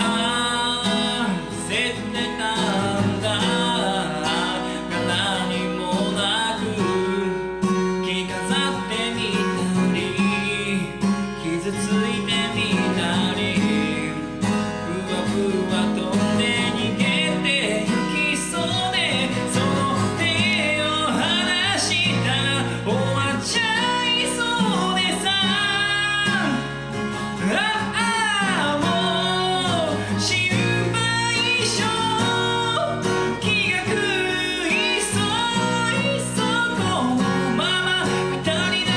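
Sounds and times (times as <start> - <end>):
person singing: 0.0 - 38.9
strummed acoustic guitar: 0.0 - 38.9.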